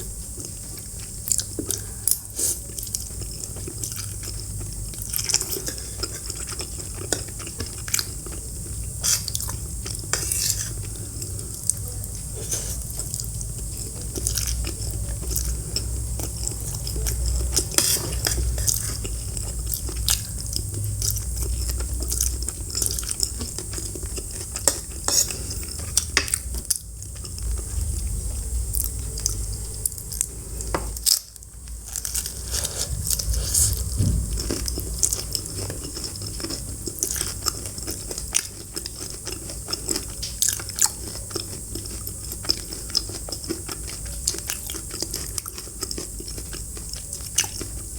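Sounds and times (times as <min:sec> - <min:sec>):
crunchy bites and chewing: 0:00.0 - 0:47.9.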